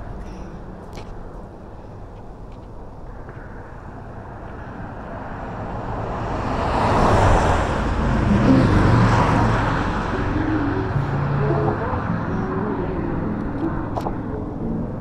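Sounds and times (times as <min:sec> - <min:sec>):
low engine hum: 0:00.0 - 0:15.0
vehicle passing on highway: 0:00.1 - 0:15.0.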